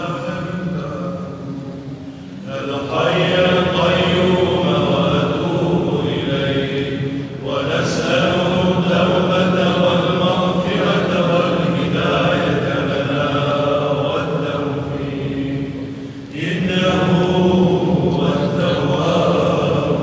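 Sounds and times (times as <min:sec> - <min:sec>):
men chanting together: 0:02.5 - 0:20.0.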